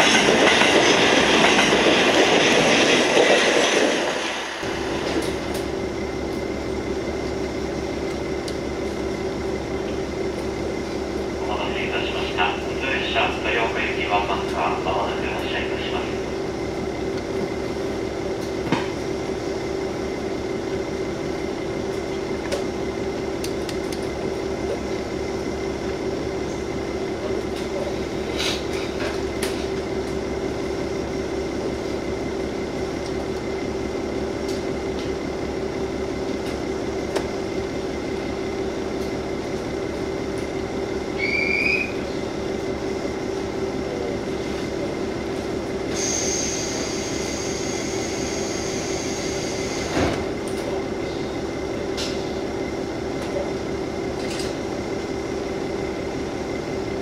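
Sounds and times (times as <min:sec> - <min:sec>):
diesel railcar engine idling: 0:04.2 - 0:57.0.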